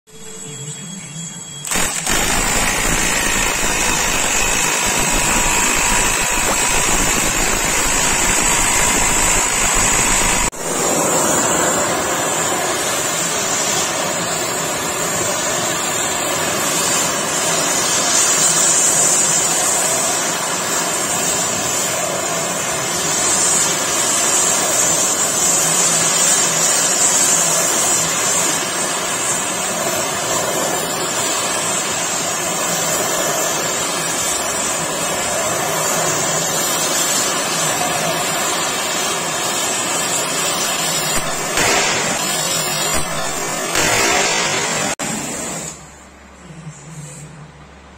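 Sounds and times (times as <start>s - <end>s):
gas torch hissing: 1.6s - 46.0s.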